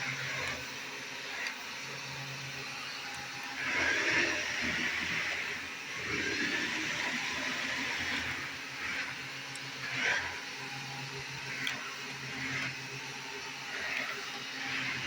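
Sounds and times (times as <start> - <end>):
toy drive motors running: 0.0 - 15.0.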